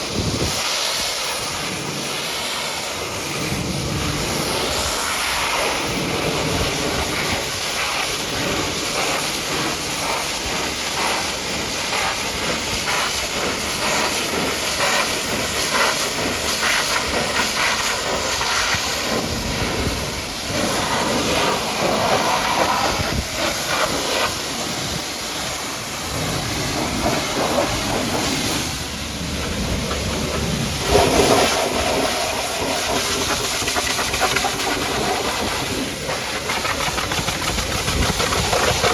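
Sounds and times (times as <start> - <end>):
pressure washer jet spraying: 0.0 - 38.9.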